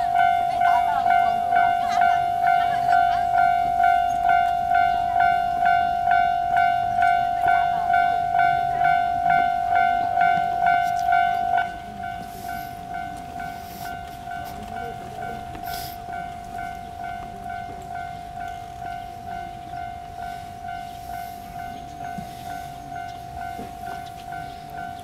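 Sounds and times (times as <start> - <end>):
electronic level crossing bell: 0.0 - 25.0.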